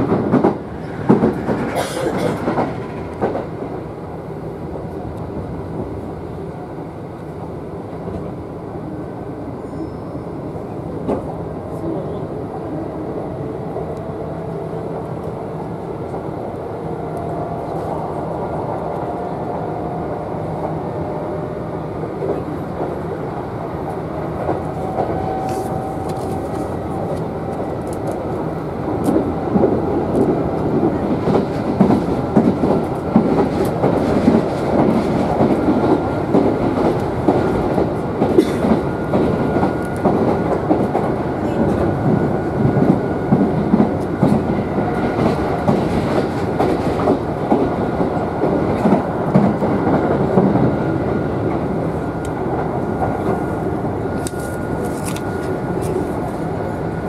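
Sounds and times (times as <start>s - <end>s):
train running rumble: 0.0s - 9.6s, 10.4s - 57.0s.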